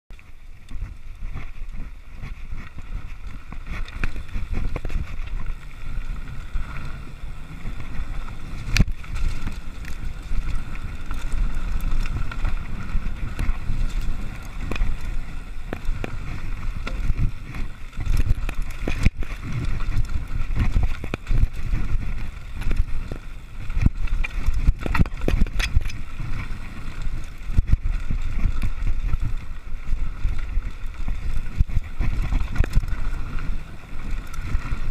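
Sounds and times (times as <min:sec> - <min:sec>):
bike rattling: 0:00.1 - 0:34.9
tyres on dirt: 0:00.1 - 0:34.9
wind buffeting microphone: 0:00.4 - 0:34.9.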